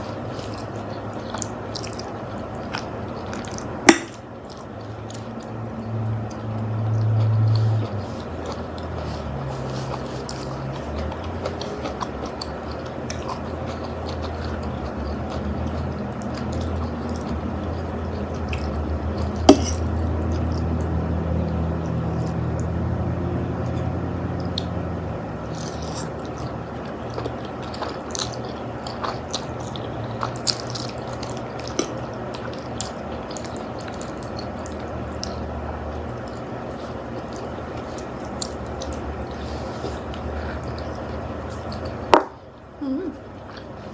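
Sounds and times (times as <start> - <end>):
chewing and slurping: 0.0 - 24.8, 25.4 - 42.6
steady low hum: 0.0 - 43.9.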